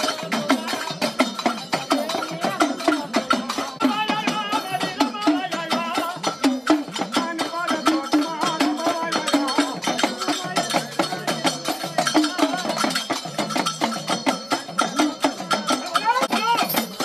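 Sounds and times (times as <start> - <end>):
metal plates beaten with sticks: 0.0 - 17.0.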